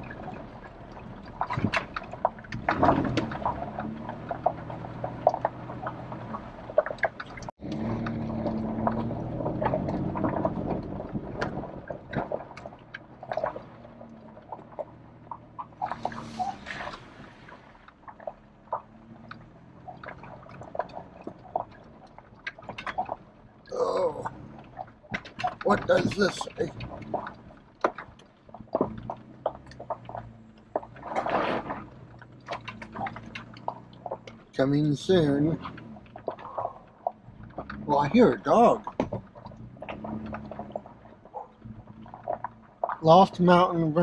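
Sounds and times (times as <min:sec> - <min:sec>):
cab knocks and rattles: 0:00.0 - 0:44.0
truck engine running: 0:00.0 - 0:44.0.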